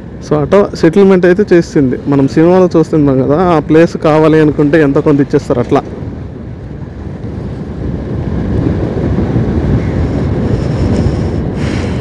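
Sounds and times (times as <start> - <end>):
motorcycle engine and tyre noise: 0.0 - 12.0
wind rush on microphone: 0.0 - 12.0.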